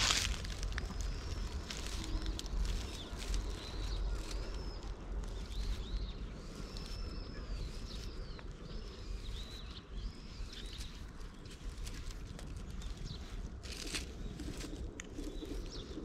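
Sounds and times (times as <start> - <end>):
bird chirping: 0.0 - 16.0
brush rustling through fur: 0.0 - 16.0
low rumble: 0.0 - 16.0.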